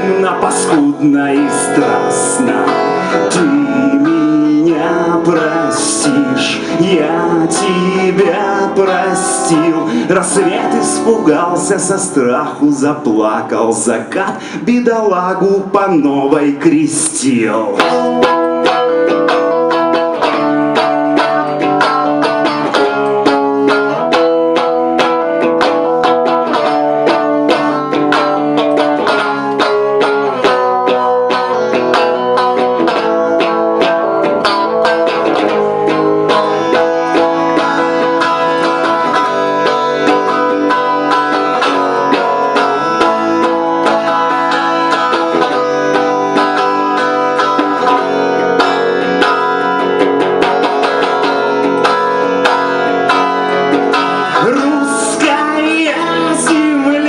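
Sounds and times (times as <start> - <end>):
guitar instrumental: 0.0 - 57.0.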